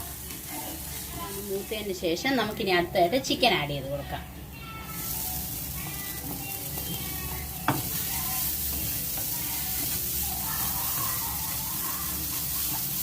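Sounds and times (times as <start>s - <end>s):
masala sizzling in a pan: 0.0s - 3.5s, 4.7s - 13.0s.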